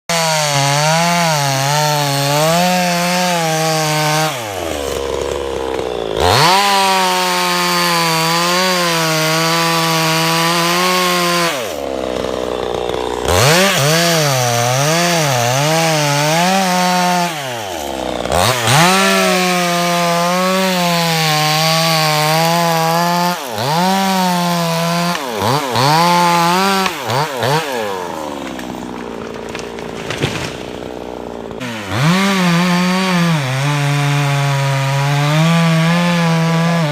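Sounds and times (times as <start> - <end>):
chainsaw cutting wood: 0.1 - 36.9.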